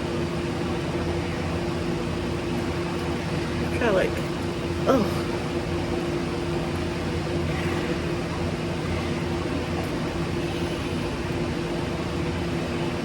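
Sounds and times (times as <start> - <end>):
ventilation hum and hiss: 0.0 - 13.0.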